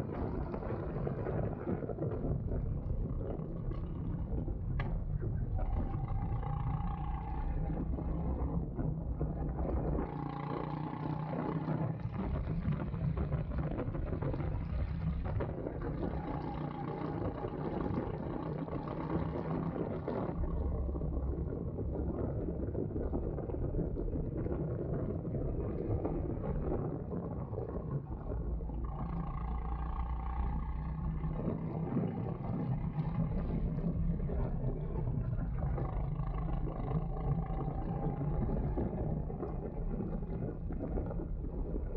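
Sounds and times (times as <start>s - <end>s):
go-kart engine running: 0.0s - 23.0s, 28.4s - 41.9s.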